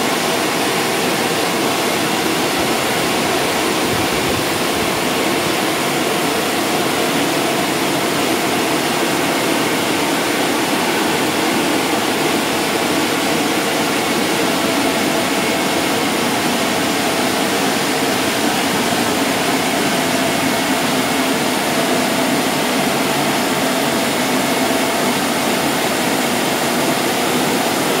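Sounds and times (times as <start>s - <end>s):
car wash spray and motors: 0.0s - 28.0s.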